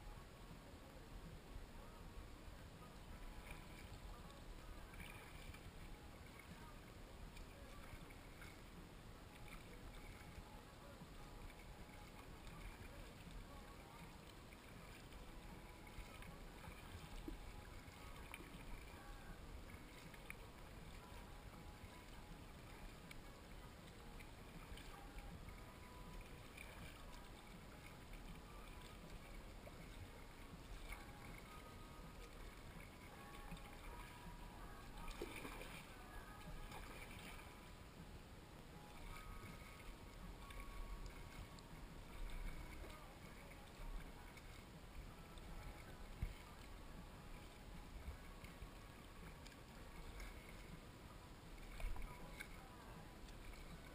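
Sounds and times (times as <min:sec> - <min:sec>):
water lapping against kayak: 0:00.0 - 0:53.9.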